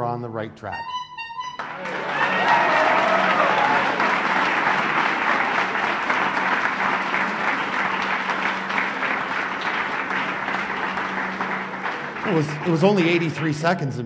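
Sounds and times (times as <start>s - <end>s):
audience applauding: 1.6s - 14.0s.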